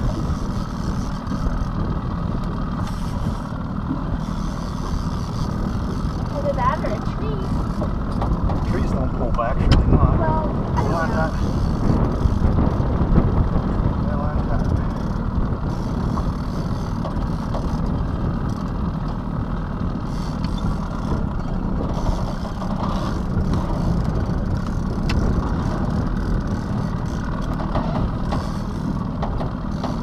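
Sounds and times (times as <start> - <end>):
outboard motor running: 0.0 - 30.0
wind buffeting microphone: 0.0 - 30.0.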